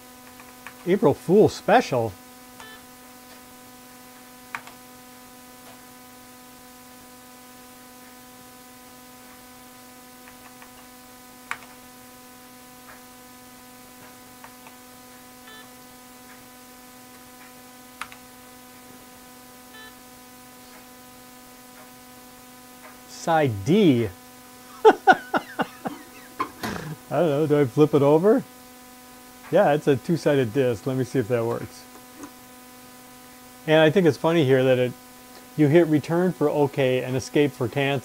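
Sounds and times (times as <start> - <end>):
electrical hum: 0.0 - 38.0.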